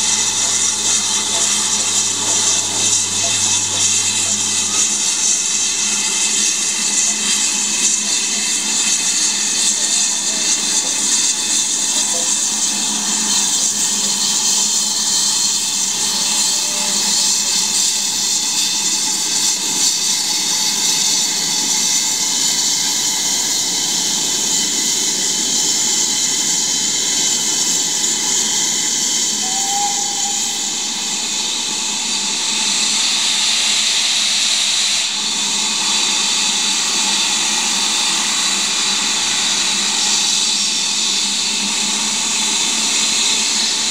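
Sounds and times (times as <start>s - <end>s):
steam hissing: 0.0s - 43.9s
steam locomotive passing: 0.0s - 43.9s.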